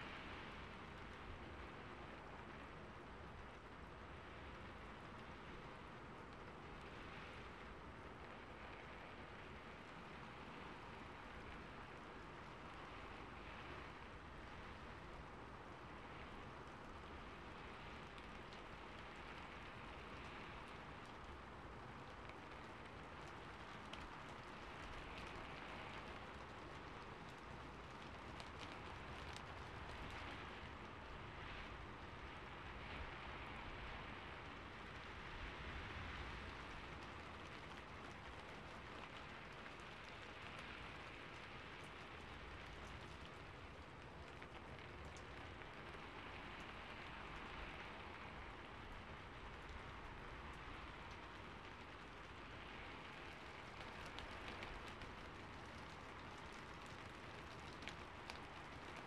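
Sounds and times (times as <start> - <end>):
rain on a rooftop: 0.0 - 59.0.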